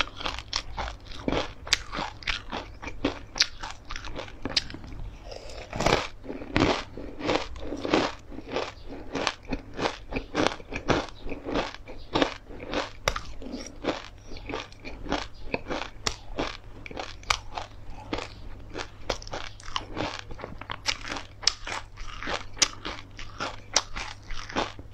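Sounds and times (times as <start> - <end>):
crunchy chewing of fried food: 0.0 - 24.9.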